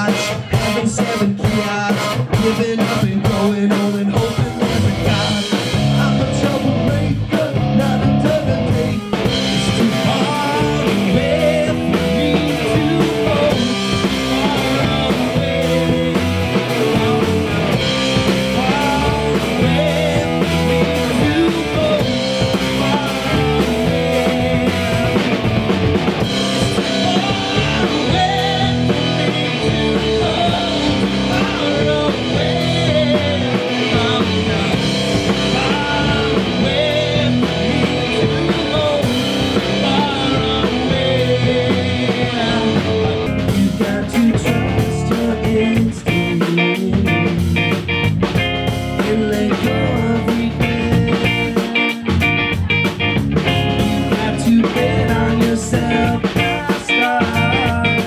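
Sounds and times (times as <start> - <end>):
bass guitar: 0.0 - 58.0
drum kit and cymbals: 0.0 - 58.0
electric guitar: 0.0 - 58.0
lead vocal singing: 0.0 - 58.0.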